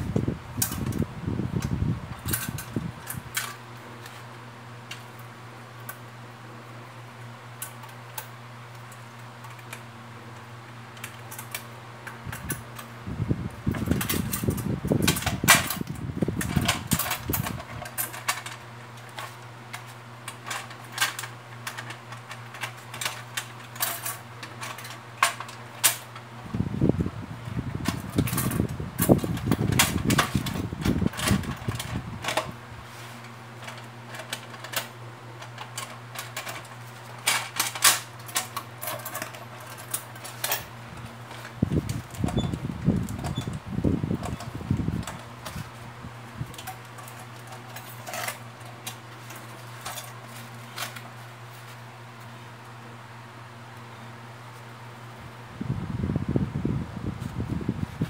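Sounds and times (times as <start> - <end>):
low fan hum: 0.0 - 58.0.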